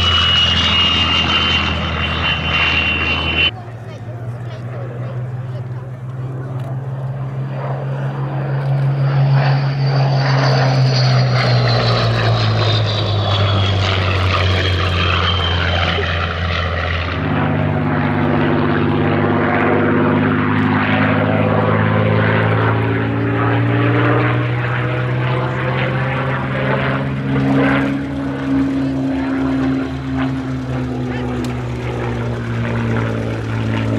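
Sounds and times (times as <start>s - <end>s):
propeller plane engine passing: 0.0s - 33.9s.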